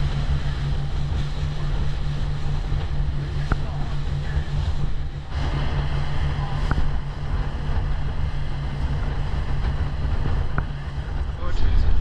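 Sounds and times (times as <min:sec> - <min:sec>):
outboard motor humming: 0:00.0 - 0:12.0
wind noise on microphone: 0:00.0 - 0:12.0.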